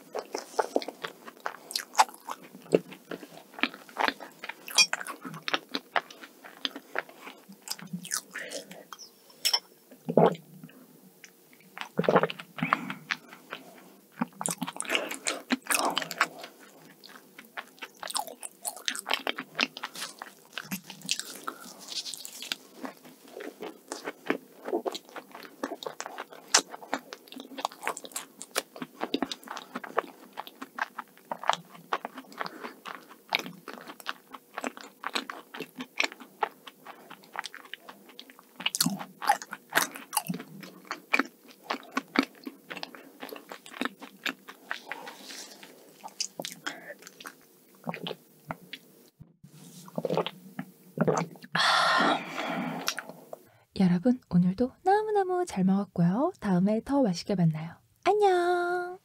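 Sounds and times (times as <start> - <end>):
chewing flaky pastry: 0.0 - 9.4, 10.2 - 51.6.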